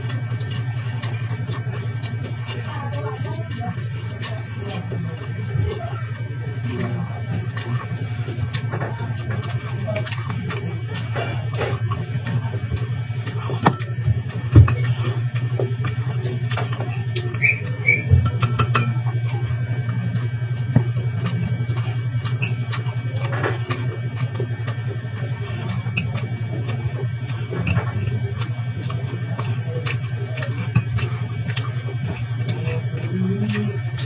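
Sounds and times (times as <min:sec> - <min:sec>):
chewing and mouth clicks: 0:00.0 - 0:34.0
steady low hum: 0:00.0 - 0:34.0.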